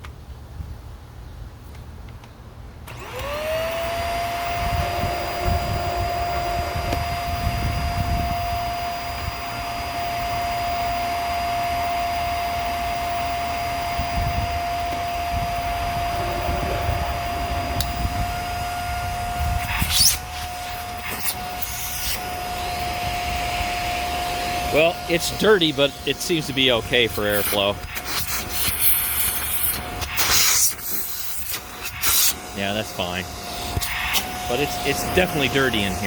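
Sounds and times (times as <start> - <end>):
vacuum cleaner motor whine: 2.9 - 36.0.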